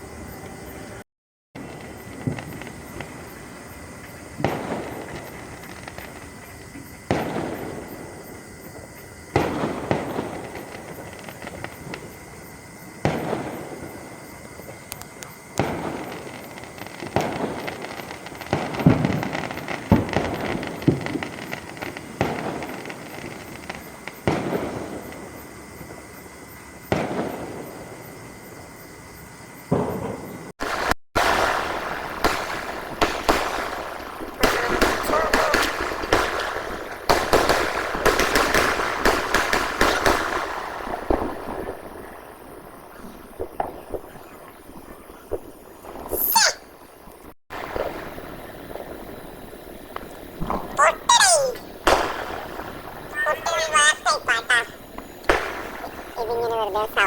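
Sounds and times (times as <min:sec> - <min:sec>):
fireworks bangs echoing: 0:01.6 - 0:28.7, 0:29.6 - 0:57.0.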